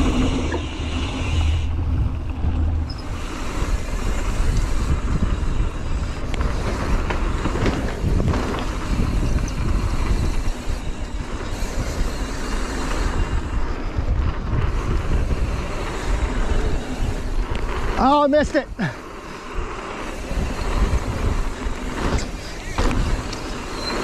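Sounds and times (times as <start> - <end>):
bike tyres and rattle on dirt: 0.0 - 24.0
wind buffeting microphone: 0.0 - 24.0.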